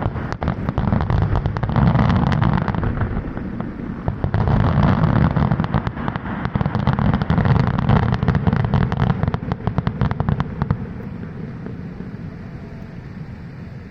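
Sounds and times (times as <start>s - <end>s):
distant fireworks crackling bangs: 0.0s - 13.9s
low rumble: 0.0s - 13.9s.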